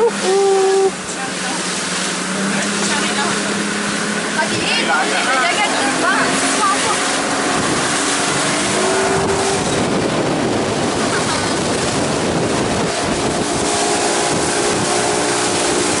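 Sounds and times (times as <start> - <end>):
motorboat engine drone: 0.0 - 16.0
water rushing along hull: 0.0 - 16.0
wind buffeting microphone: 0.9 - 16.0.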